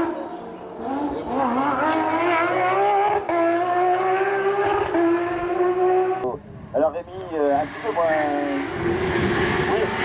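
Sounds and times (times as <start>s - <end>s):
race car engine accelerating: 0.8s - 6.4s, 7.2s - 10.0s.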